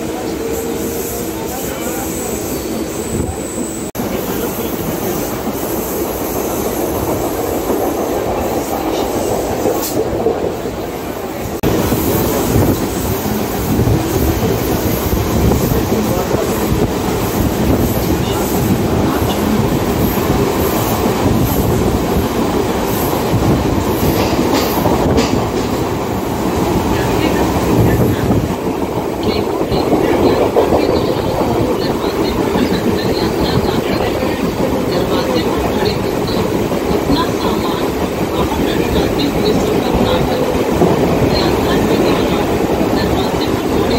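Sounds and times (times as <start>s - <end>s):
train wheels clickety-clack on rails: 0.0s - 43.9s.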